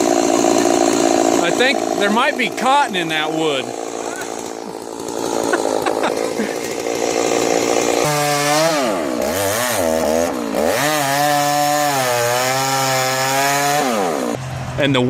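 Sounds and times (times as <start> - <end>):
chainsaw cutting wood: 0.0 - 14.4.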